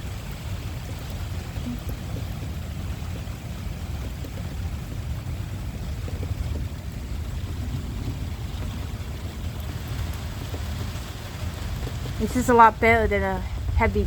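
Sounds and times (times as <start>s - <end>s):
faint rain hiss: 0.0s - 14.0s
storm wind buffeting microphone: 0.0s - 14.0s.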